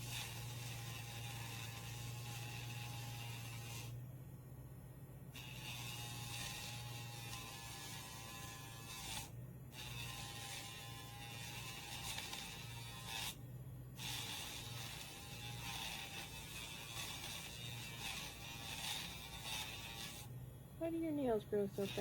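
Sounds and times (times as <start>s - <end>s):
pet nail grinder whirring: 0.0s - 4.0s, 5.3s - 13.4s, 14.0s - 22.0s.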